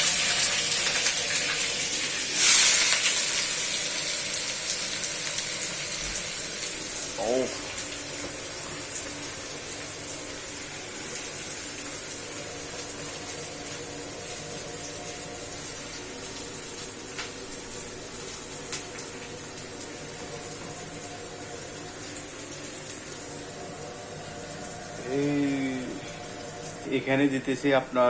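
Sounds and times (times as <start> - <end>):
food sizzling in oil: 0.0 - 27.8.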